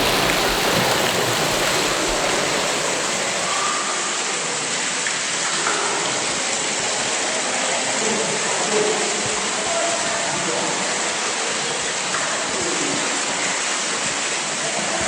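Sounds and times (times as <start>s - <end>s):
rush of falling water: 0.0s - 15.0s.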